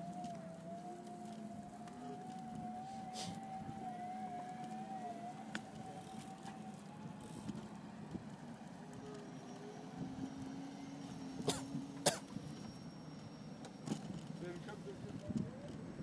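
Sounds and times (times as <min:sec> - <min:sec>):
electric motor whine: 0:00.0 - 0:15.1
small wheels rumbling on pavement: 0:00.0 - 0:16.0.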